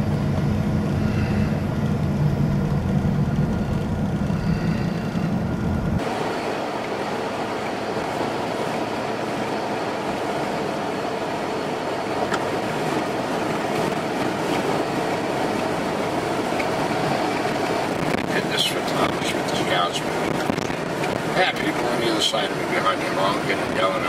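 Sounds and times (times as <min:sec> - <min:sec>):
car road noise: 0:00.0 - 0:24.0.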